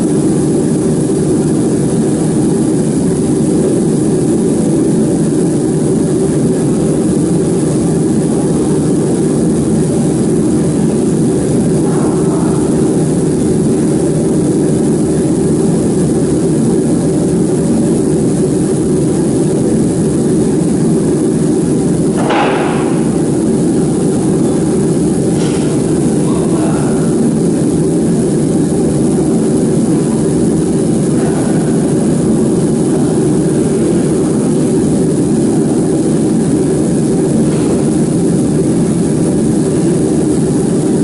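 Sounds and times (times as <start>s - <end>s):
laser machine fan drone: 0.0s - 41.0s.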